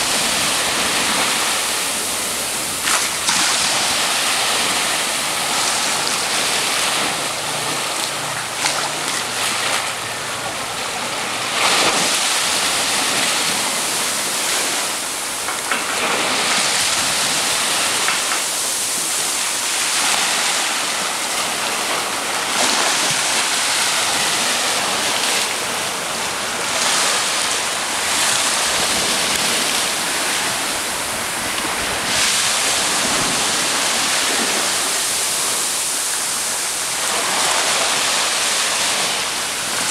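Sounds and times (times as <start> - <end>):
small waves washing on beach: 0.0 - 39.9.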